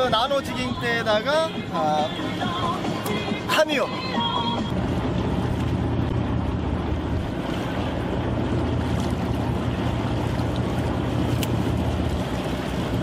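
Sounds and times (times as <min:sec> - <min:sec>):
boat engine humming: 0:00.0 - 0:13.0
waves: 0:00.0 - 0:13.0
wind: 0:00.0 - 0:13.0.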